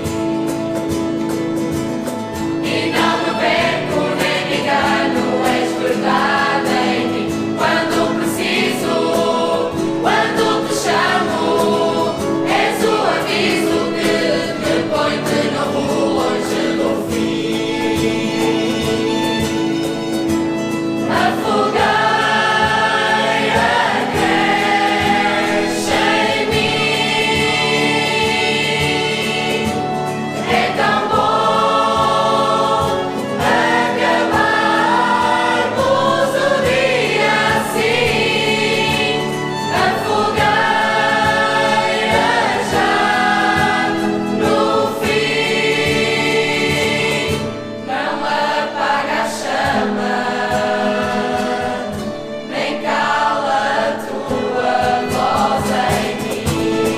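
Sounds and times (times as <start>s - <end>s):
choir singing gospel music: 0.0s - 56.9s.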